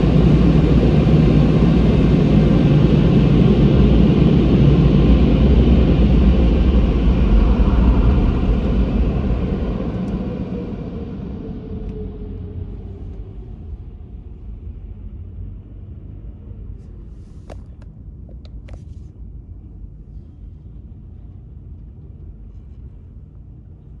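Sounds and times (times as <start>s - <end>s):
car wash machinery rumble: 0.0s - 24.0s.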